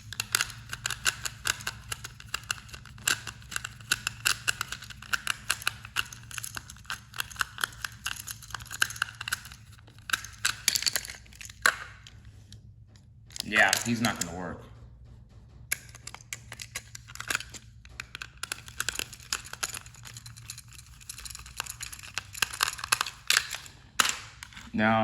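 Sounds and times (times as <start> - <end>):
plastic toy clicks and rattles: 0.0 - 12.5, 13.3 - 14.4, 15.7 - 24.8
steady low hum: 0.0 - 25.0.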